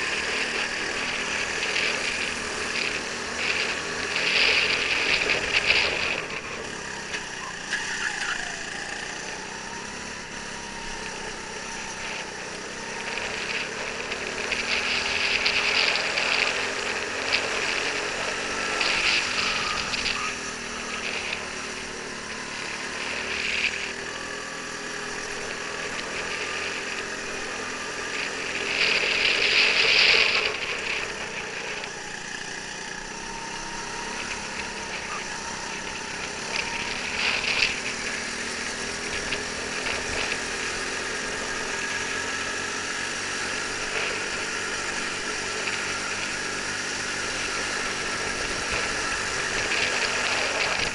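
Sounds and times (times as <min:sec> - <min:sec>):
steady rushing noise: 0:00.0 - 0:07.4, 0:08.4 - 0:50.9
go-kart engine: 0:00.0 - 0:50.9.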